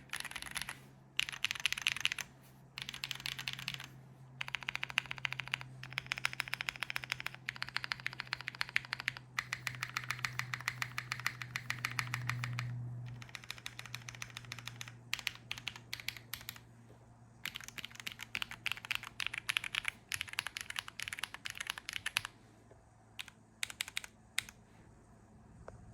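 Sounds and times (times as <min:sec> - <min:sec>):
mechanical keyboard typing: 0:00.0 - 0:16.6, 0:17.4 - 0:22.4, 0:23.2 - 0:24.6.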